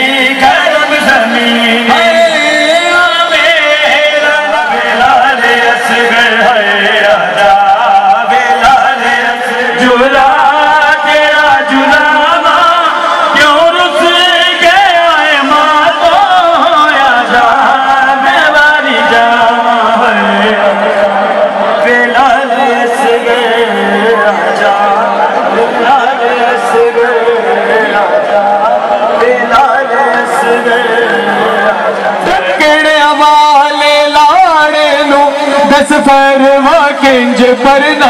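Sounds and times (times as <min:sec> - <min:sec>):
men singing a lamentation chant: 0:00.0 - 0:38.0.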